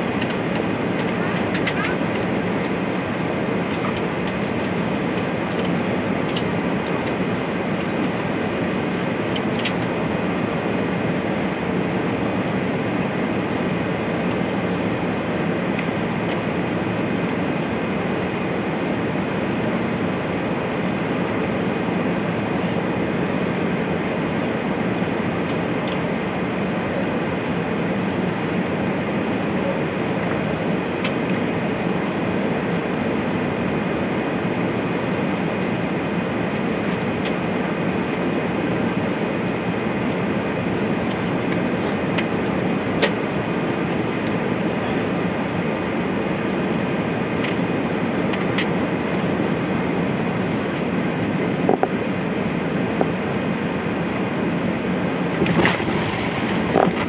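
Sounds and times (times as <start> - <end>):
airplane cabin airflow and engine: 0.0 - 57.0.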